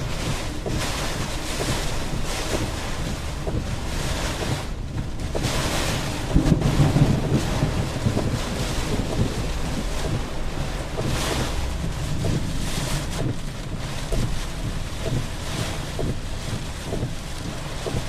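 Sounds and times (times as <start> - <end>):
storm wind buffeting microphone: 0.0 - 18.0.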